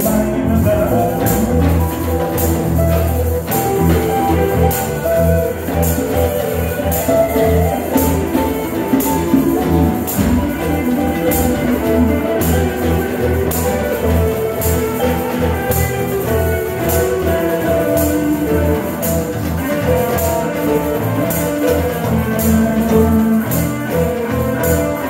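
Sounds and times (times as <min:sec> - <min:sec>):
electric bass line: 0:00.0 - 0:25.0
mandolin: 0:00.0 - 0:25.0
percussion hits: 0:00.0 - 0:25.0.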